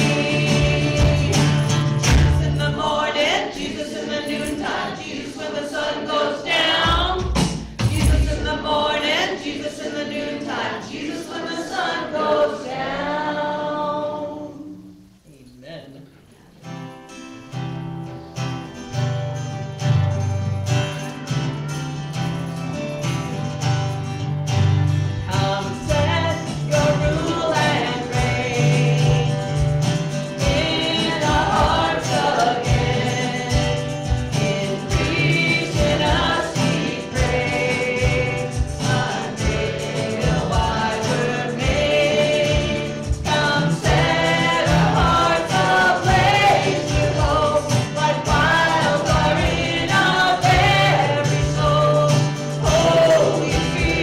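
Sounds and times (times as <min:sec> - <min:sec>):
several voices singing: 0:00.0 - 0:15.2, 0:25.2 - 0:54.0
strummed acoustic guitar: 0:00.0 - 0:15.2, 0:16.2 - 0:54.0.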